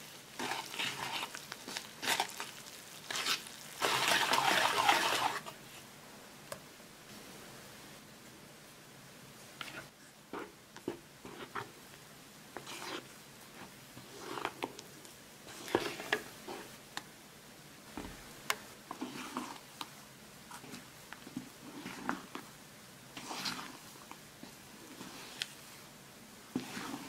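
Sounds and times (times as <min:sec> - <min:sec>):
spatula folding wet batter: 0:00.0 - 0:05.8, 0:09.6 - 0:17.1, 0:17.9 - 0:25.9, 0:26.5 - 0:27.0.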